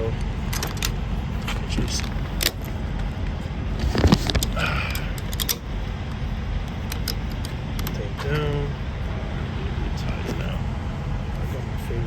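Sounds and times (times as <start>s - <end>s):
low rumble: 0.0s - 12.0s
winch metallic clicks: 0.0s - 12.0s.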